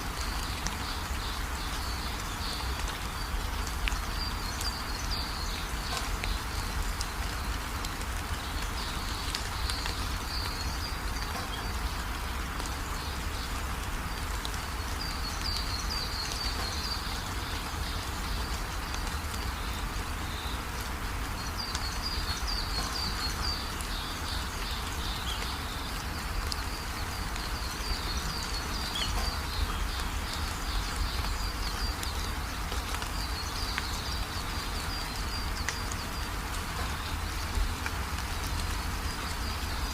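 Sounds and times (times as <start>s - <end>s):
steady rainfall hiss: 0.0s - 39.9s.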